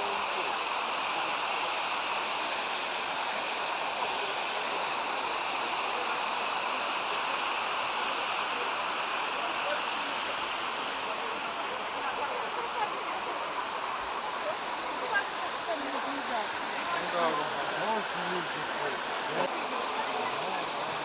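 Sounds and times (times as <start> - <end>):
stream rushing over waterfalls: 0.0 - 21.0.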